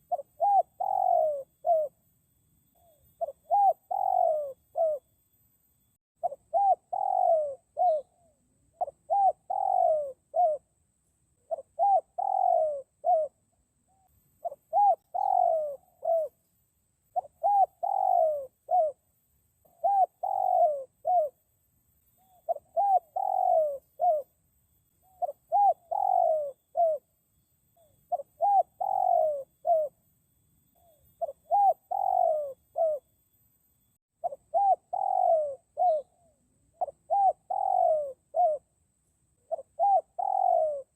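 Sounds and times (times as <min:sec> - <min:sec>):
dove cooing: 0:00.0 - 0:02.1, 0:02.7 - 0:05.1, 0:06.2 - 0:10.8, 0:11.4 - 0:16.4, 0:17.0 - 0:19.0, 0:19.6 - 0:21.4, 0:22.1 - 0:24.4, 0:25.0 - 0:27.1, 0:27.8 - 0:30.1, 0:30.7 - 0:33.1, 0:34.2 - 0:38.8, 0:39.4 - 0:40.9.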